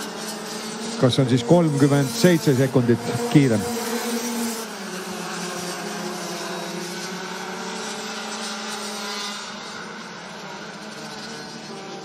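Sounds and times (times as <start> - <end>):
kart engines running: 0.0 - 12.0.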